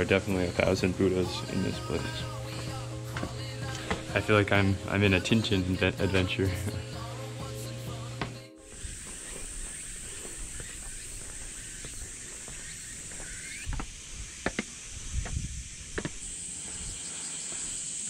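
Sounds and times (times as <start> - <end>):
cicadas singing: 0.0 - 18.0.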